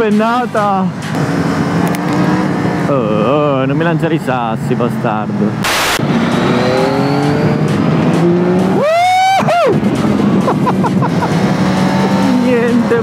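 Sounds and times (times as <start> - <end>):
motorcycle engine revving: 1.1 - 8.8, 9.7 - 13.0.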